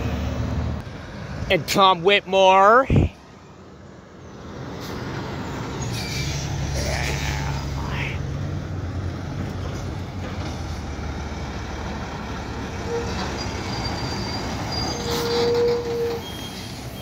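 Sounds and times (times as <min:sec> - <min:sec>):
truck passing with diesel rumble: 0:00.0 - 0:17.0.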